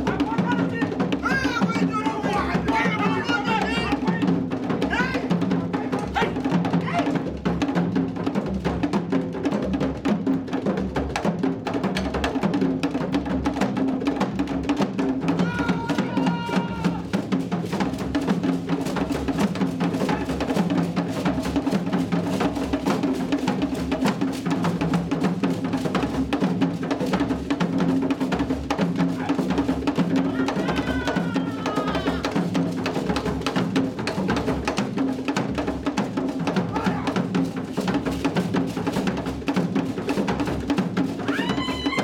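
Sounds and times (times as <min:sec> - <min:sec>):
drum ensemble playing fast rhythm: 0:00.0 - 0:42.0.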